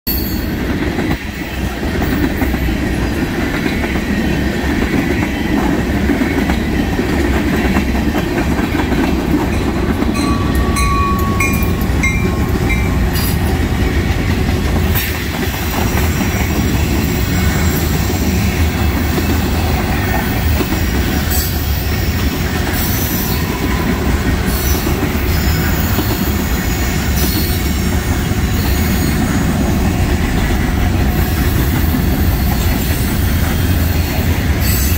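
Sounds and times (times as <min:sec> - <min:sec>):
freight train rumbling past: 0:00.1 - 0:34.9
wheels clacking over rail joints: 0:00.2 - 0:34.9.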